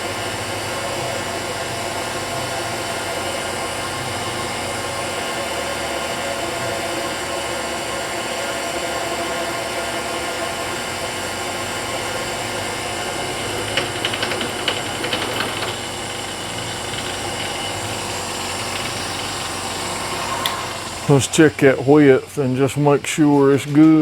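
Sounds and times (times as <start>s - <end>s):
milling machine running: 0.0s - 24.0s.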